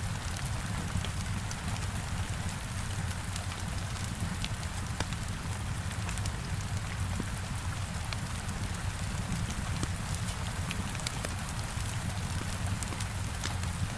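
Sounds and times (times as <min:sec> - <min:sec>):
crackling wood fire: 0:00.0 - 0:13.9
heavy rain on a window: 0:00.0 - 0:13.9.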